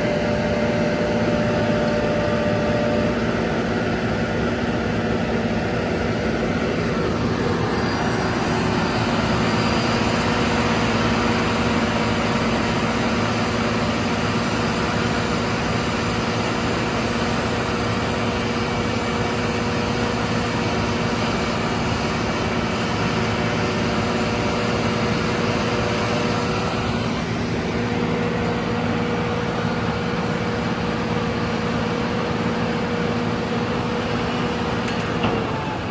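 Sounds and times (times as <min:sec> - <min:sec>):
diesel engine running under load: 0:00.0 - 0:35.9
mechanical whine: 0:00.0 - 0:35.9.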